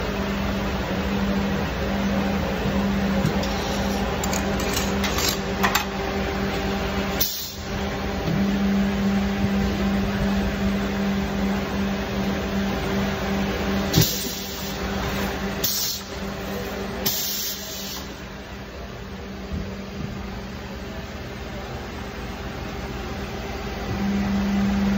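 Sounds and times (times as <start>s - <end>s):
machine humming: 0.0s - 24.9s.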